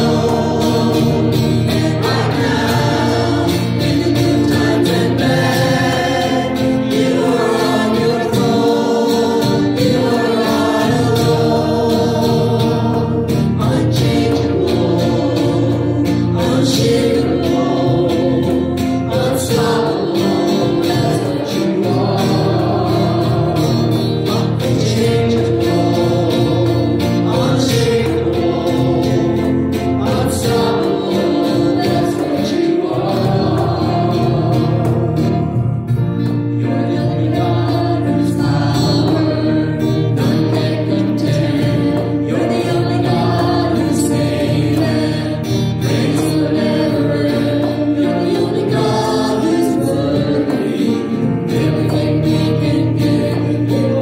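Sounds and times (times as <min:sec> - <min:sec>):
acoustic guitar: 0:00.0 - 0:54.0
cajon: 0:00.0 - 0:54.0
voices singing together: 0:00.0 - 0:54.0.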